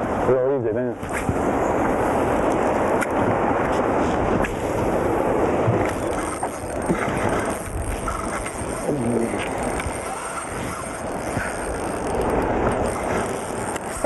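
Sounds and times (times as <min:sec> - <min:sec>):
wind on microphone: 0:00.0 - 0:14.0
small waves washing: 0:01.0 - 0:14.0.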